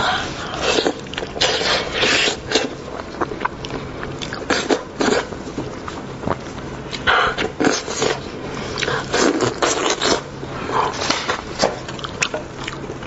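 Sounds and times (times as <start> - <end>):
close chewing and eating: 0.0 - 13.0.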